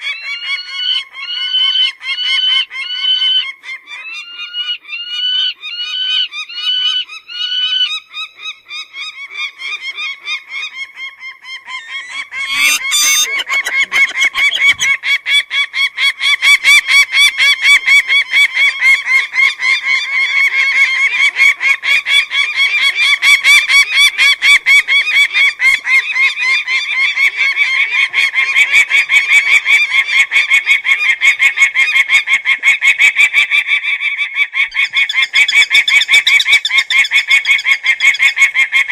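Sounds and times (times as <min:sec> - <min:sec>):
falcon calling: 0:00.0 - 0:33.8, 0:34.6 - 0:38.9.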